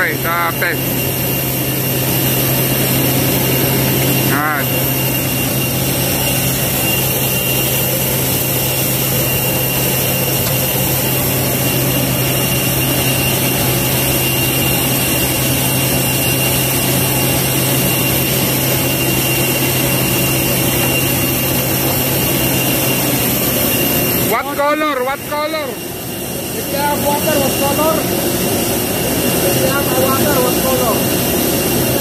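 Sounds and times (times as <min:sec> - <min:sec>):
high whine: 0:00.0 - 0:32.0
truck engine and pump hum: 0:00.0 - 0:32.0.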